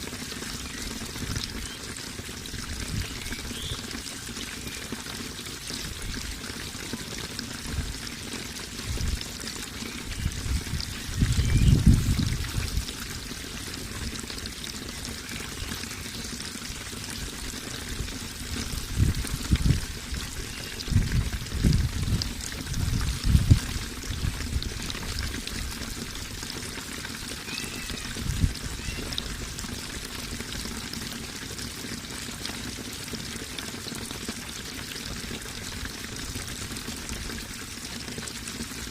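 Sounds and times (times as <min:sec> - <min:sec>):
low water surges: 0:00.0 - 0:38.9
running water pouring: 0:00.0 - 0:38.9.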